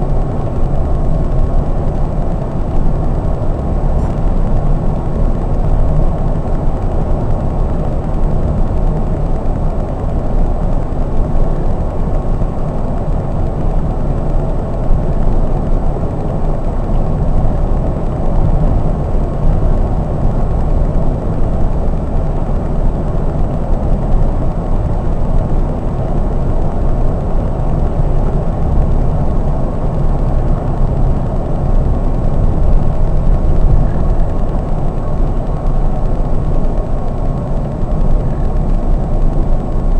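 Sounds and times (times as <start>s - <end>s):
bus engine and tyres rumbling: 0.0s - 39.9s.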